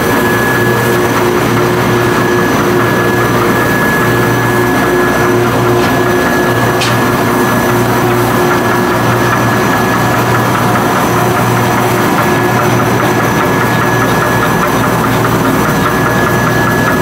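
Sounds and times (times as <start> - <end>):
high steady whine: 0.0 - 17.0
machine mechanical hum: 0.0 - 17.0.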